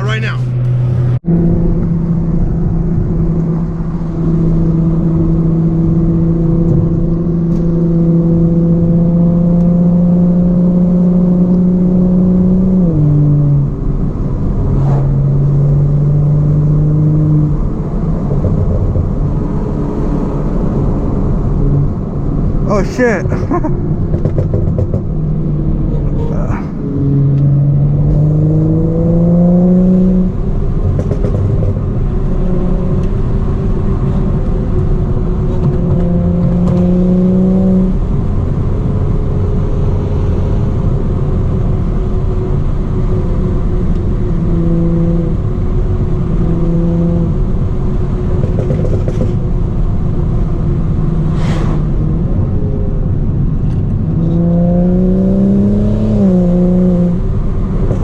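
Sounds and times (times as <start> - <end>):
car engine accelerating and shifting: 0.0 - 58.0.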